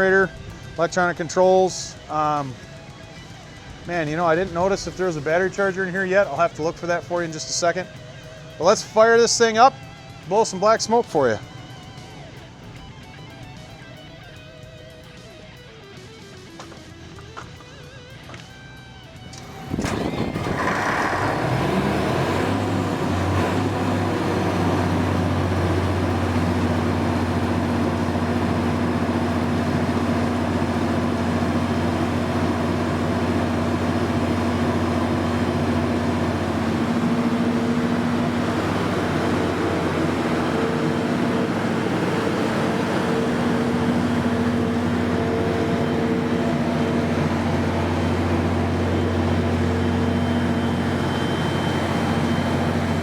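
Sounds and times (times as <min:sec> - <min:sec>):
diesel generator running: 0:00.0 - 0:53.0.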